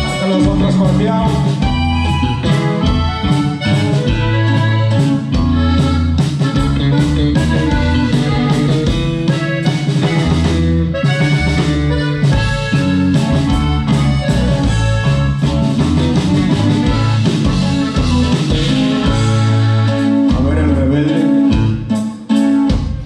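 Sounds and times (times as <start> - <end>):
button accordion melody: 0.0 - 23.0
drum kit beat: 0.0 - 23.0
electric bass: 0.0 - 23.0.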